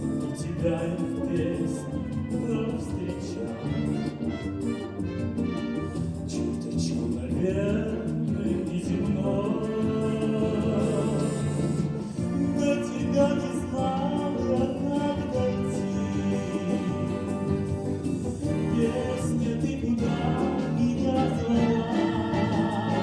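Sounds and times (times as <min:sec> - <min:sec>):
man singing: 0:00.0 - 0:05.0, 0:05.7 - 0:23.0
brass band playing slow song: 0:00.0 - 0:23.0.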